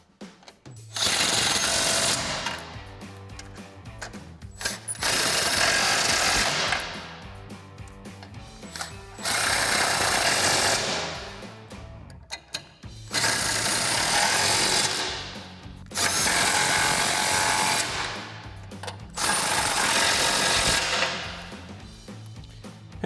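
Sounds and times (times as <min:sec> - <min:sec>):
impact wrench hammering: 0:00.2 - 0:11.5, 0:12.3 - 0:21.7.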